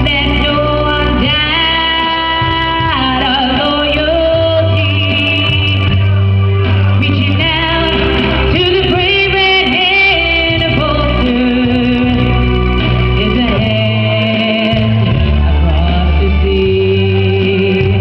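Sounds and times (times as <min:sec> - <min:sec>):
instrumental accompaniment with bass: 0:00.0 - 0:18.0
woman singing: 0:00.0 - 0:18.0.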